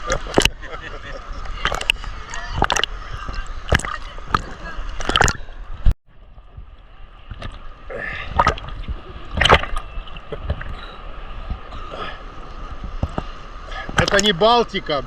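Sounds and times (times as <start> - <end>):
sea water splashing: 0.0 - 15.0.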